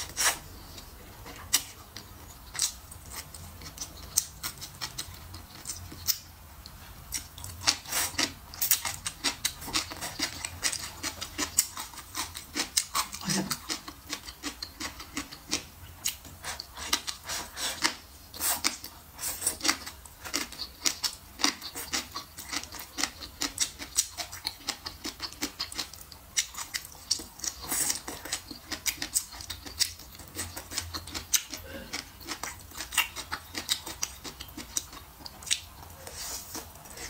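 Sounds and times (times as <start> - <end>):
chewing and lip-smacking: 0.1 - 37.0.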